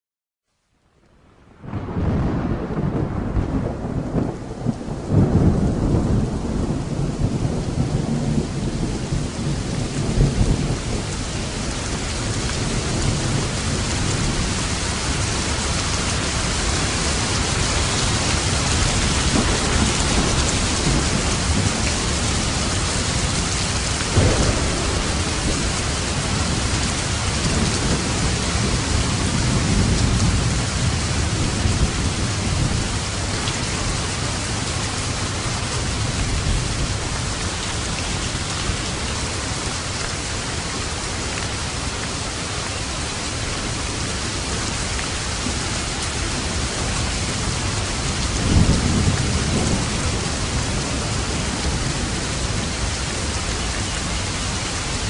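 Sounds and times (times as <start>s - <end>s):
steady rain: 0.5s - 55.0s
rolling thunder: 1.6s - 39.0s, 43.7s - 53.4s.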